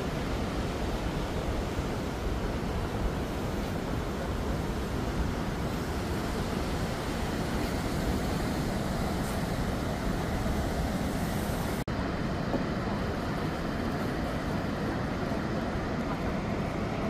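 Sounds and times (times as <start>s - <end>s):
roar of rushing waterfall: 0.0s - 17.0s.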